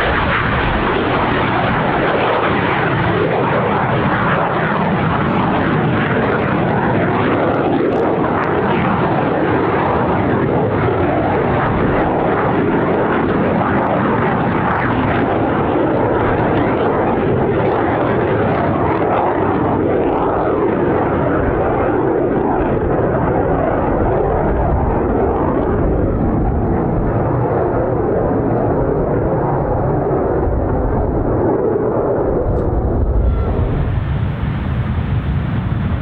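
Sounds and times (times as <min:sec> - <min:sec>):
aircraft engine rushing: 0:00.0 - 0:36.0.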